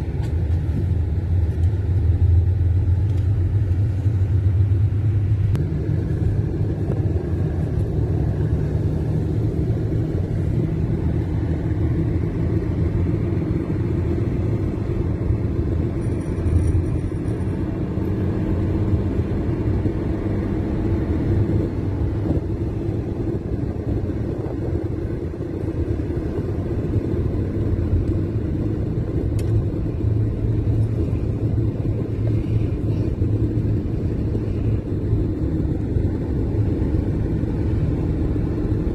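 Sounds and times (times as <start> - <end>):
car cabin road rumble: 0.0 - 38.9.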